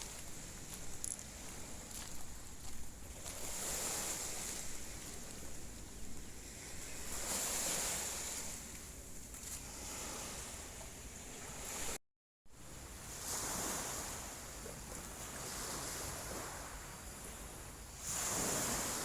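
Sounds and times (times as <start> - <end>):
small waves washing on beach: 0.0 - 12.0, 12.7 - 19.0.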